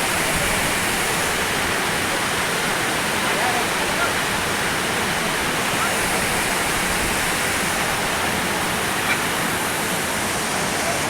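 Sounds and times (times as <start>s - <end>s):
waterfall rushing and splashing: 0.0s - 11.0s.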